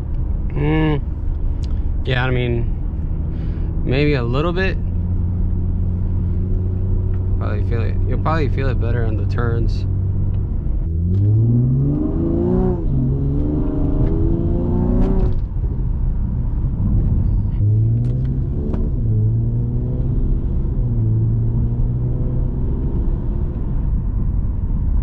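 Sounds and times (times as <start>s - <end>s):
car engine accelerating: 0.0s - 24.2s
low road rumble: 0.0s - 25.0s.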